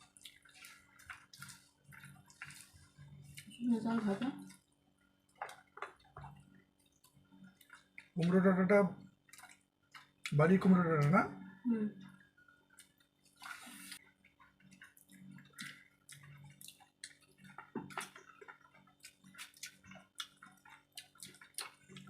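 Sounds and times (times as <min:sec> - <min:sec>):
wet chewing and mouth smacks: 0:00.0 - 0:03.6, 0:04.4 - 0:08.3, 0:09.2 - 0:10.4, 0:12.0 - 0:22.0.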